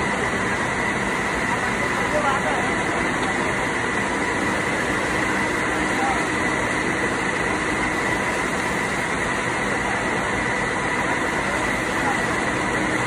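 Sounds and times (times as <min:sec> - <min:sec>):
industrial machinery din: 0:00.0 - 0:13.0.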